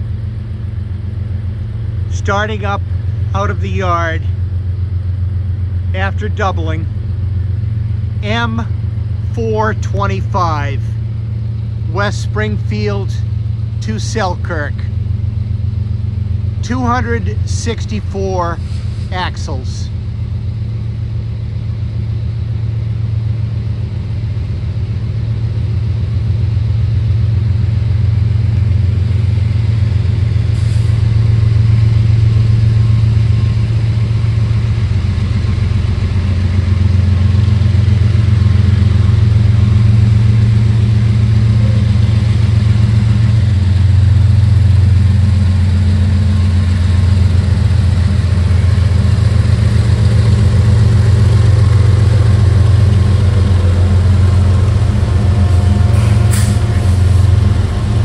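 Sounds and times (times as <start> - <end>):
locomotive engines droning: 0.0 - 58.0.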